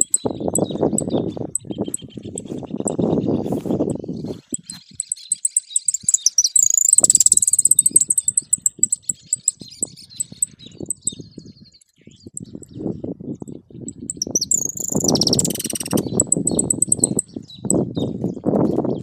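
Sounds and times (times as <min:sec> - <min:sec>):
finch singing: 0:00.0 - 0:19.0.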